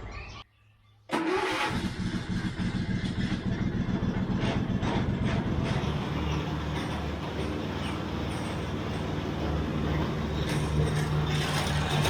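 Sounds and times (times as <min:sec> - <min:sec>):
mower engine running: 0:01.2 - 0:12.0.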